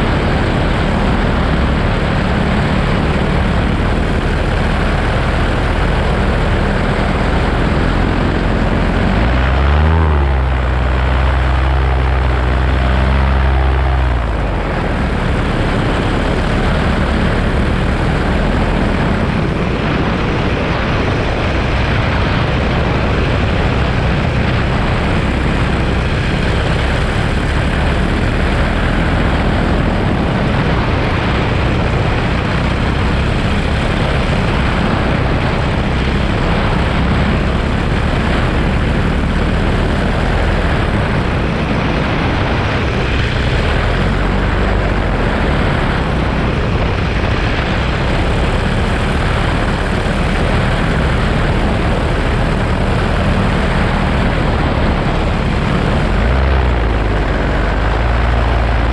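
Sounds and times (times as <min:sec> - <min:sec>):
paramotor engine and propeller drone: 0:00.0 - 0:58.9
rush of air: 0:00.0 - 0:58.9.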